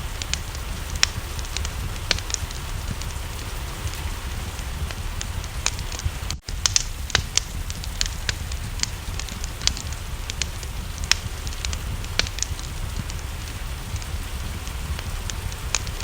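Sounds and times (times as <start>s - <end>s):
rain hiss: 0.0s - 16.0s
wood fire crackling: 0.0s - 16.0s.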